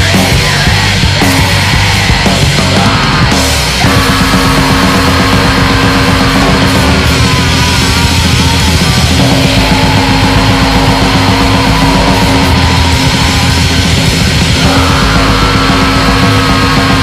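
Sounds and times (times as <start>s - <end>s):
distorted guitars: 0.0s - 17.0s
drums: 0.0s - 17.0s
high melodic line: 2.2s - 17.0s.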